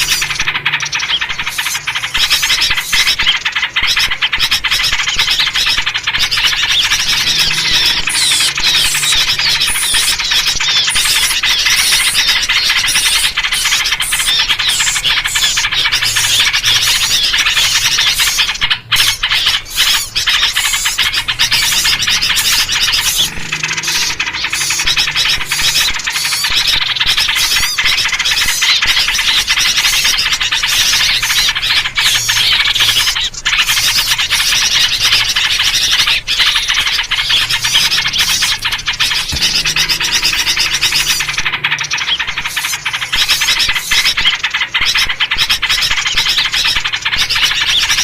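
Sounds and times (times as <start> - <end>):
small birds chattering and chirping: 0.0 - 48.0.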